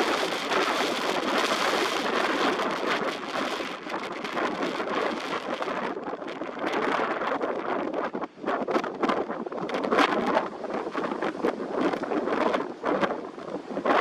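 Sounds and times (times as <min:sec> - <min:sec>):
strong gusting wind: 0:00.0 - 0:14.0.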